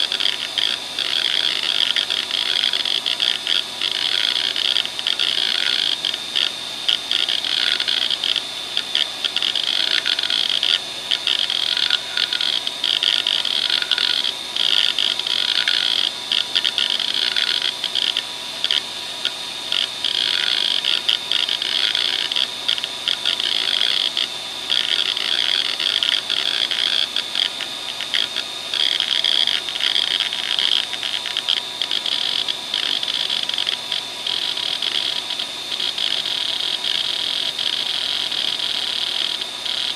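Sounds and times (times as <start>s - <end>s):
hard drive head chattering clicks: 0.0s - 39.9s.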